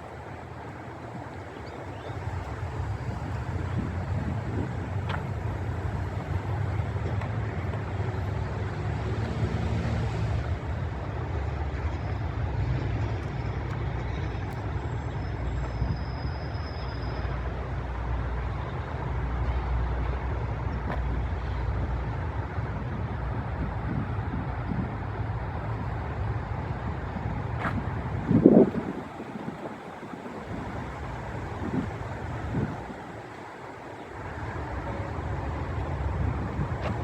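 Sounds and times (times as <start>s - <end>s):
heavy vehicles passing: 0.0s - 37.0s
road traffic rumble: 0.0s - 37.0s
wind: 0.0s - 37.0s.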